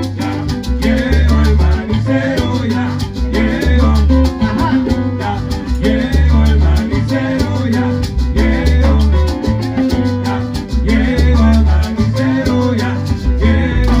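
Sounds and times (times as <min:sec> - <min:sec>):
digital piano chords: 0:00.0 - 0:14.0
low bass line: 0:00.0 - 0:14.0
percussion strokes: 0:00.0 - 0:14.0.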